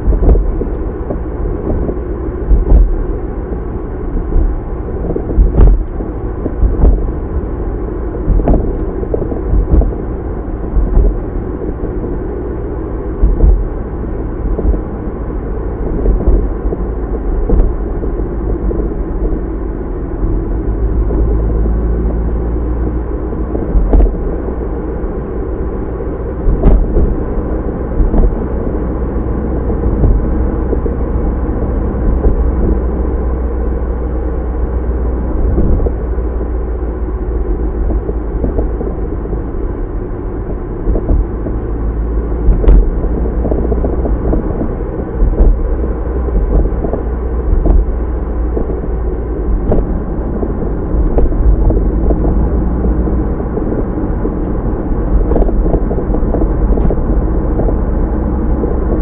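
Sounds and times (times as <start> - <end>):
car interior road and engine rumble: 0.0 - 59.0.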